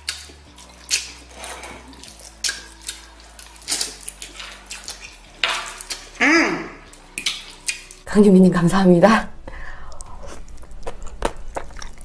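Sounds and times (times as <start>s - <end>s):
wet chewing: 0.0s - 8.1s, 9.9s - 12.0s.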